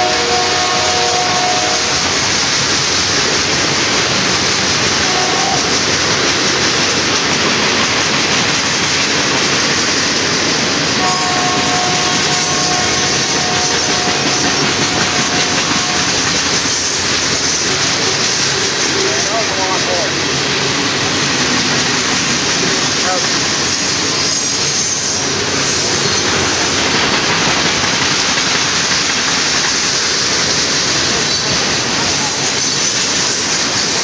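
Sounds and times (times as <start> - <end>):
train wheels on rails: 0.0 - 34.0.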